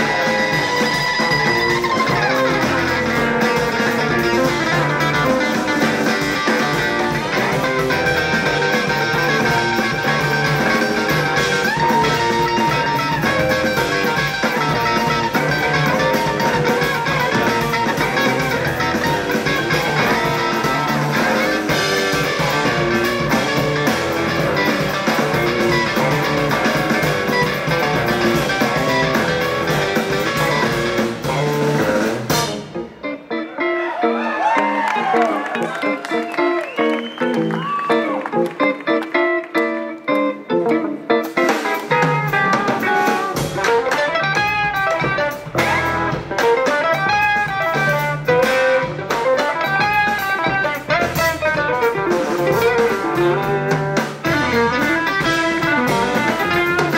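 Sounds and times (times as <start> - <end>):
bass: 0.0 - 56.9
drum kit: 0.0 - 56.9
electric guitars playing jazz: 0.0 - 56.9.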